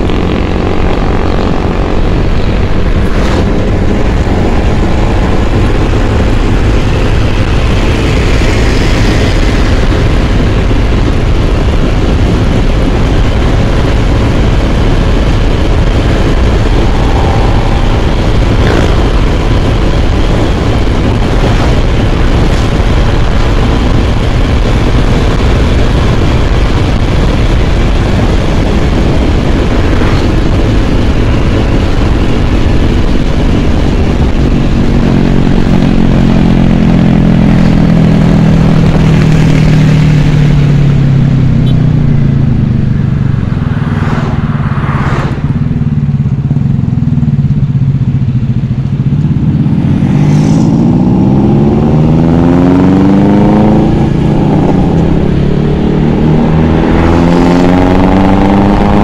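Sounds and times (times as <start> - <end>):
scooter engine running: 0.0 - 50.2
deeper engine hum: 0.0 - 59.0
road noise: 0.0 - 59.0.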